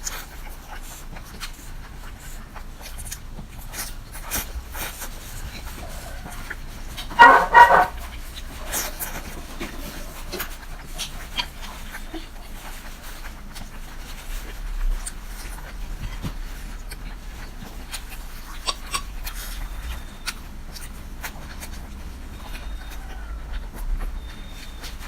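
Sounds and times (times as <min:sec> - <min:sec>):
wet chewing and slurping noodles: 0:00.0 - 0:25.0.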